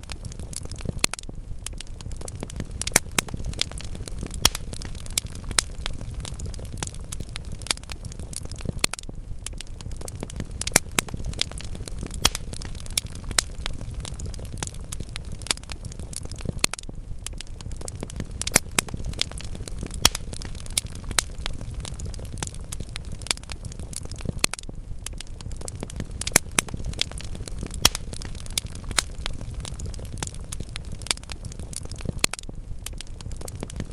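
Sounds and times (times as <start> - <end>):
sharp pops and snaps: 0.0 - 33.9
wood fire crackling: 0.0 - 33.9.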